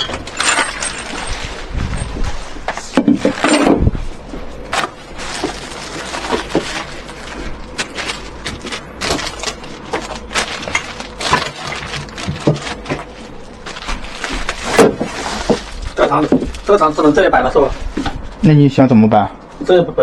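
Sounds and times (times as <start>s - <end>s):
furniture parts knocking and clattering: 0.0s - 16.6s.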